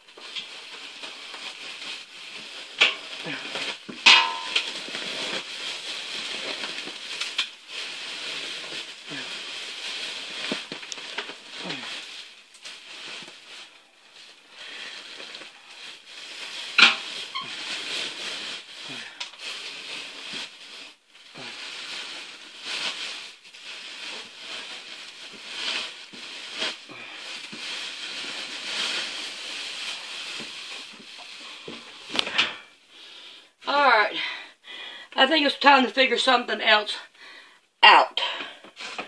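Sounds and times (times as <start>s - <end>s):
insulation rustling and crackling: 0.0s - 34.1s, 37.8s - 39.0s.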